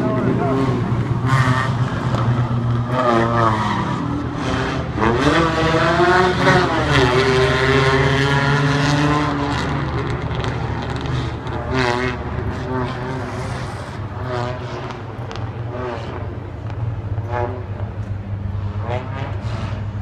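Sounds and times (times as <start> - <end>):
stock car engines racing: 0.0 - 20.0.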